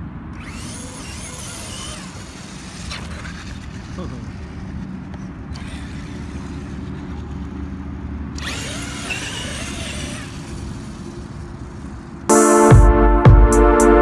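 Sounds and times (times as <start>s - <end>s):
electric motor whining: 0.3s - 12.3s.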